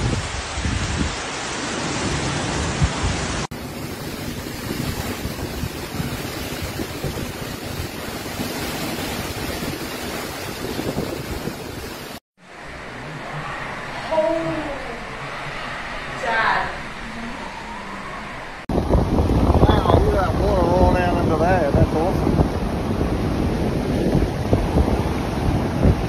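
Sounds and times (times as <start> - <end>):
gusts buffeting microphone: 0.0 - 26.0
heavy rain: 0.0 - 26.0
strong wind: 0.0 - 26.0.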